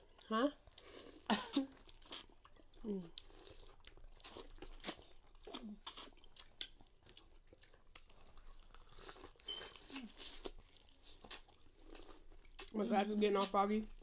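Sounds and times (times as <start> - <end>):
people crunching corn on the cob: 0.2 - 14.0.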